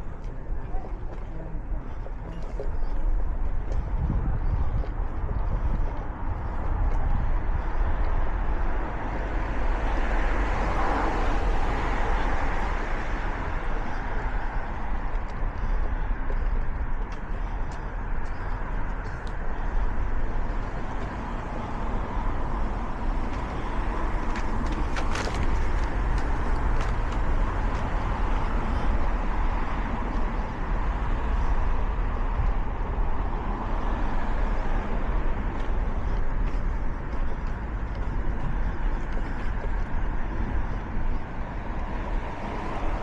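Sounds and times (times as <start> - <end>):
road traffic: 0.0 - 43.0.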